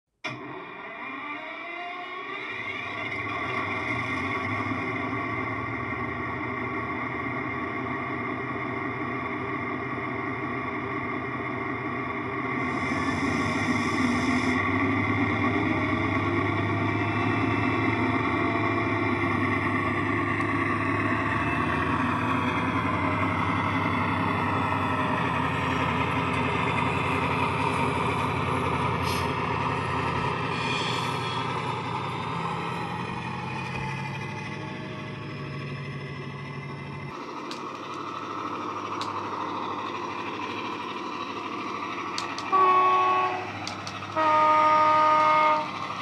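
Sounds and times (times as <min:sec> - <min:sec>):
diesel locomotive engine running: 0:00.2 - 0:46.0.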